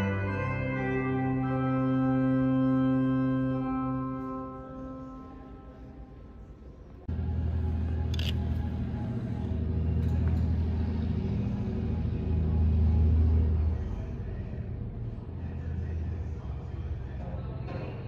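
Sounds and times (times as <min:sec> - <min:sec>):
propeller plane engines droning: 0:00.0 - 0:17.2.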